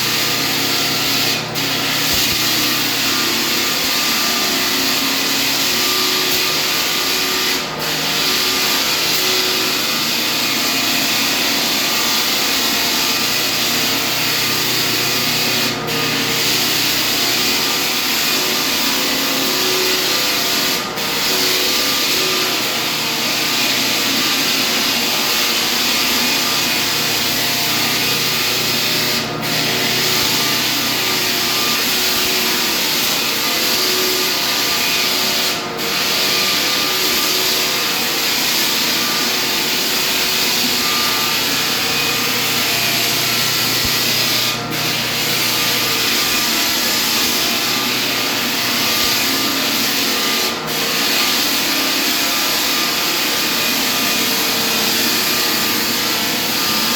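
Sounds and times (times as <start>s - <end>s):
floor sanding machine running: 0.0s - 56.9s.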